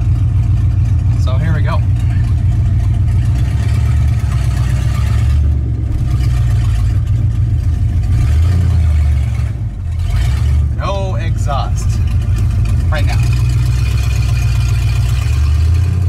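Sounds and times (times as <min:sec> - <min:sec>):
loud unmuffled truck engine: 0:00.0 - 0:16.0.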